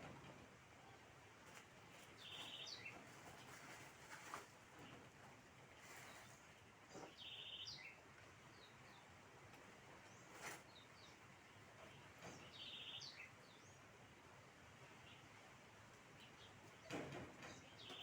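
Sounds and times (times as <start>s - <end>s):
low background noise: 0.0s - 18.0s
faint buzzy bird song: 1.9s - 18.0s.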